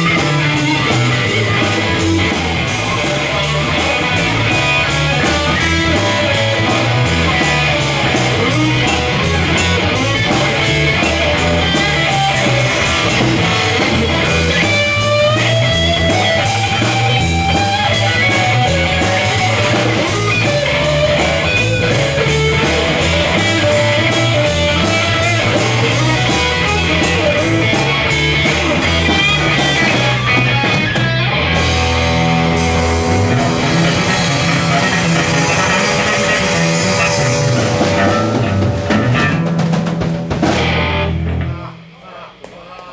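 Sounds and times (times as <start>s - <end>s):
live rock band playing: 0.0s - 42.0s
steady drumbeat: 0.0s - 42.7s.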